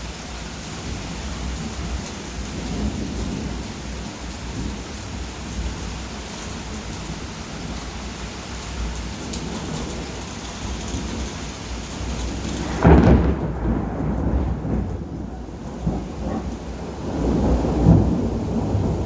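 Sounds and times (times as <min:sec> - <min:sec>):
steady rain: 0:00.0 - 0:19.0
thunder clap and rumble: 0:00.8 - 0:07.9, 0:08.9 - 0:19.0.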